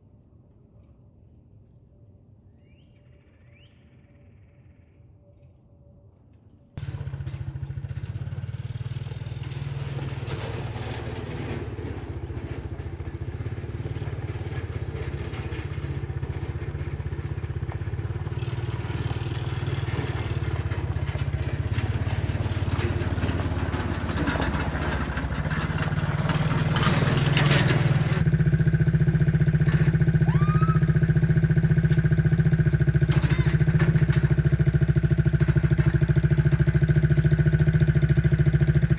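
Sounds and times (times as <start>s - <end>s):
engine running: 6.8s - 38.9s.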